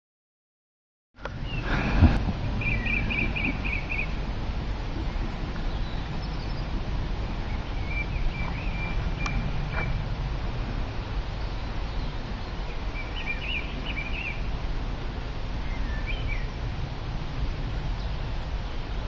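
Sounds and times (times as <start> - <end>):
songbirds chirping: 1.2 - 19.0
steady low rumble: 1.2 - 19.0.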